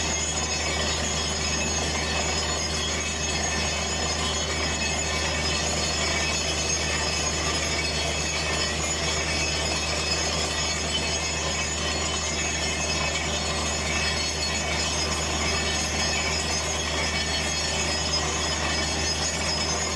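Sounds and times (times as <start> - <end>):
drilling rig humming and whining: 0.0 - 19.9.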